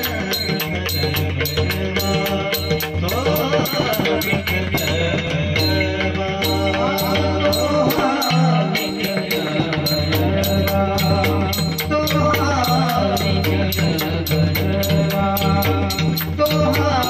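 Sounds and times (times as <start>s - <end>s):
devotional music: 0.0s - 17.0s
drum accompaniment: 0.0s - 17.0s
held steady tones: 0.0s - 17.0s.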